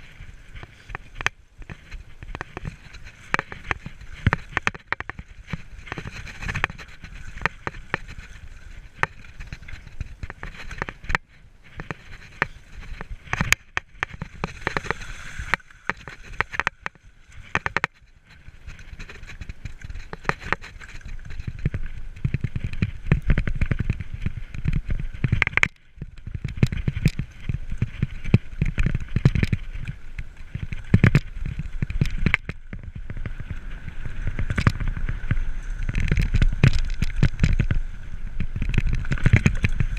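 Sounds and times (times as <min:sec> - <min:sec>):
bike rattling knocks and clicks: 0:00.0 - 0:39.9
rumble of tyres on trail: 0:00.0 - 0:39.9
wind: 0:00.0 - 0:39.9.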